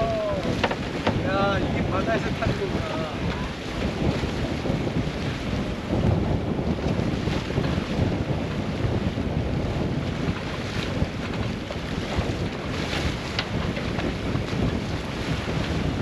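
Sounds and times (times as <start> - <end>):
waves rushing: 0.0 - 16.0
wind buffeting microphone: 0.0 - 16.0.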